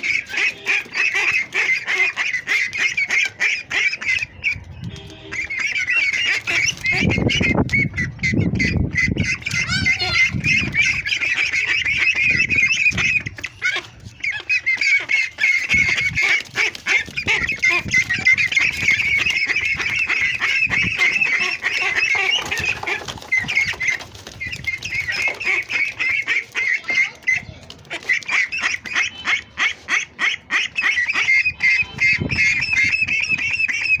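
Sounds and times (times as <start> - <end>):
ducklings peeping: 0.0 - 34.0.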